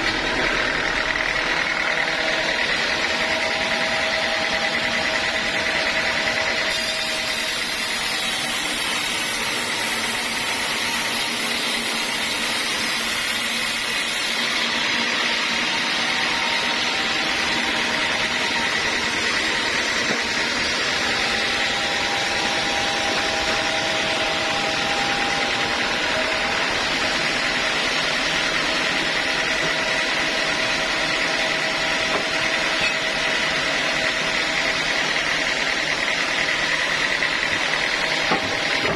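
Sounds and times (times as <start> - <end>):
circular saw running: 0.0 - 38.9.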